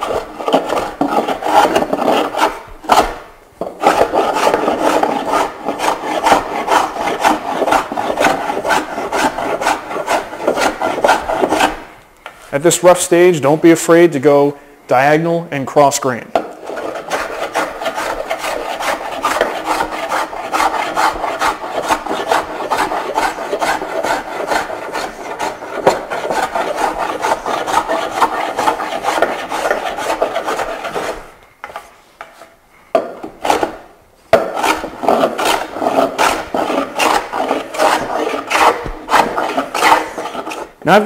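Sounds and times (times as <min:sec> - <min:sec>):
hand plane shaving wood: 0:00.0 - 0:11.9, 0:16.5 - 0:31.8, 0:33.2 - 0:40.8.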